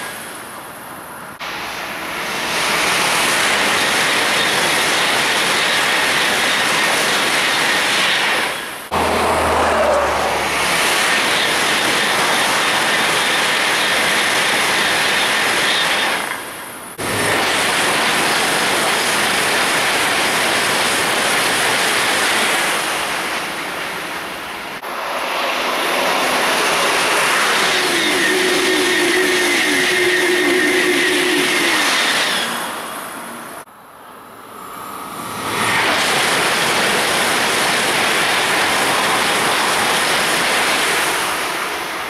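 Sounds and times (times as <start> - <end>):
high-speed trains passing: 0.0 - 42.0.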